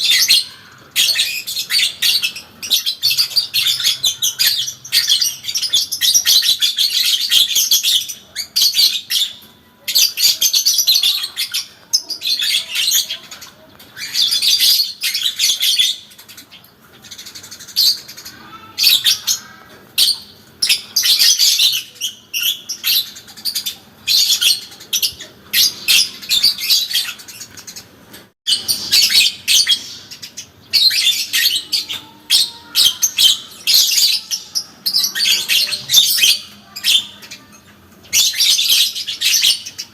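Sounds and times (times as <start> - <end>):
bird high-pitched chattering: 0.0 - 39.9.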